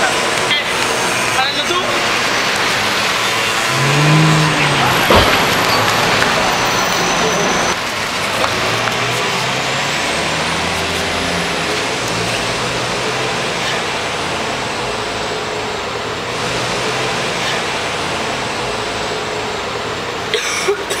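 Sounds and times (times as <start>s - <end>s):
bus driving past: 0.0s - 21.0s
street traffic engines rumbling: 0.0s - 21.0s.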